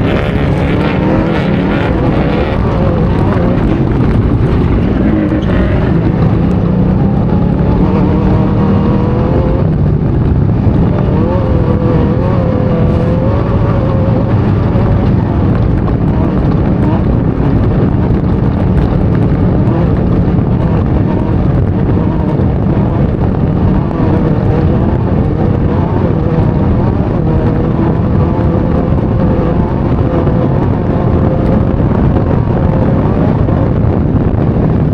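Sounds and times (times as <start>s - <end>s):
race vehicle engine running hard: 0.0s - 34.9s.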